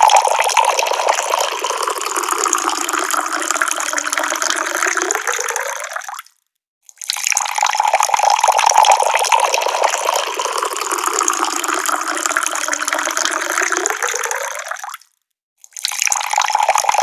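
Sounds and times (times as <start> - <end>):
water pouring from a tap: 0.0 - 6.3, 7.0 - 17.0.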